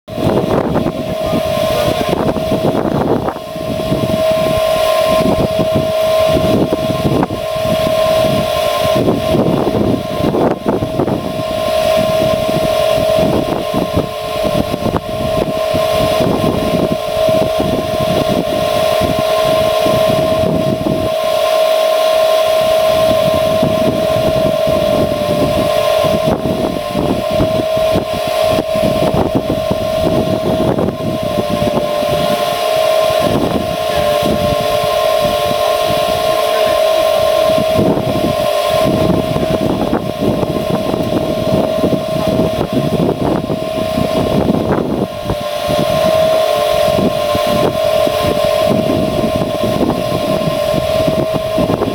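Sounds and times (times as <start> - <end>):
blower whining: 0.0 - 51.9
low rumbling: 0.0 - 51.9.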